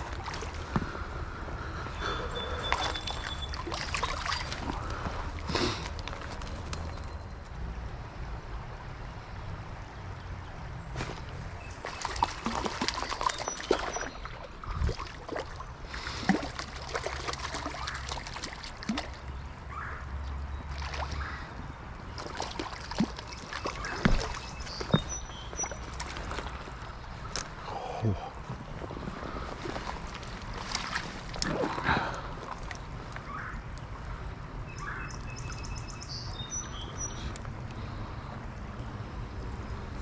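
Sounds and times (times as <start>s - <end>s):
creek water trickling: 0.0s - 40.0s.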